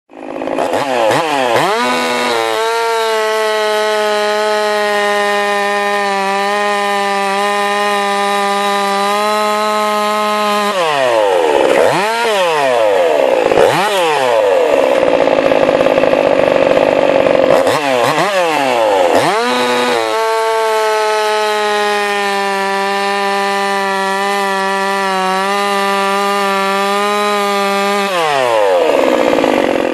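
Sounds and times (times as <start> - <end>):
chainsaw idling and revving: 0.1 - 29.9.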